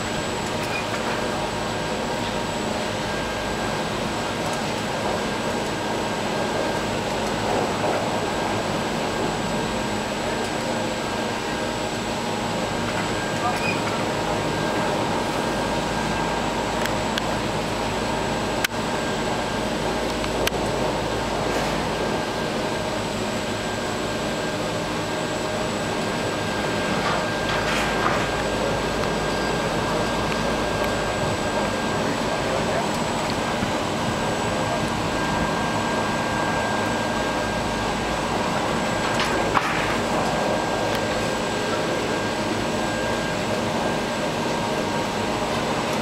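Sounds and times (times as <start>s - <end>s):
chairlift machinery hum and whine: 0.0s - 46.0s.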